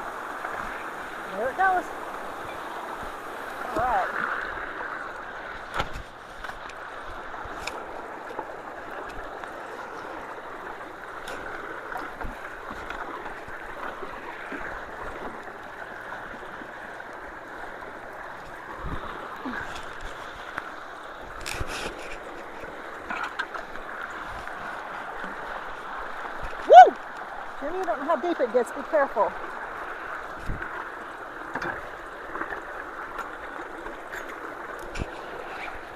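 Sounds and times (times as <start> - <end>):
creek water rushing: 0.0 - 35.9.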